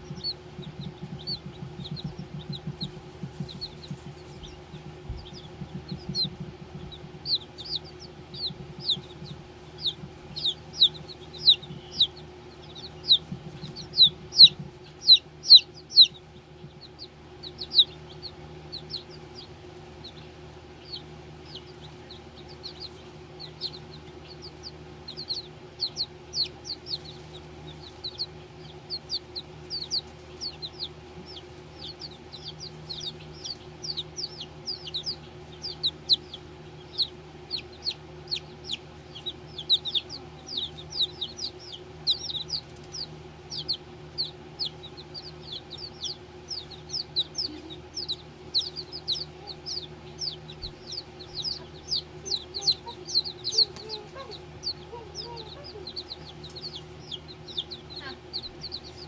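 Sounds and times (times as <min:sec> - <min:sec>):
baby chickens peeping: 0:00.0 - 0:59.0
low hum: 0:00.0 - 0:59.0.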